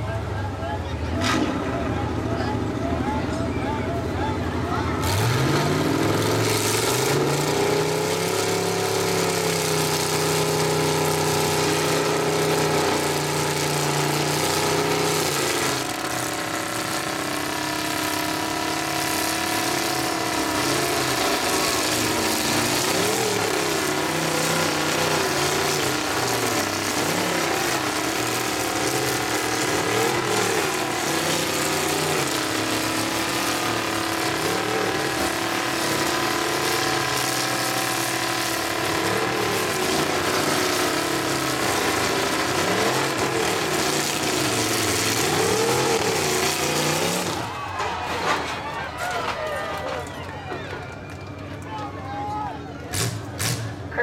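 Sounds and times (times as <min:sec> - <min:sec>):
truck engines revving under load: 0:00.0 - 0:54.0.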